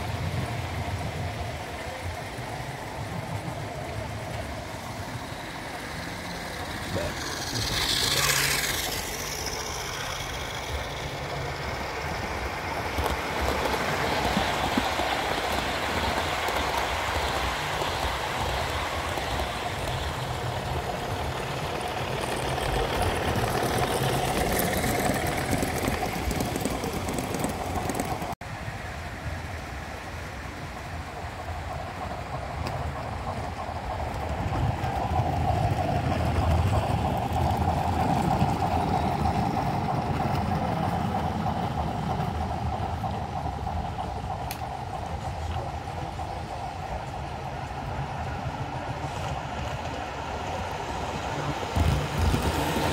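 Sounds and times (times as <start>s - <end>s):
model train wheels rumbling: 0.0s - 52.9s.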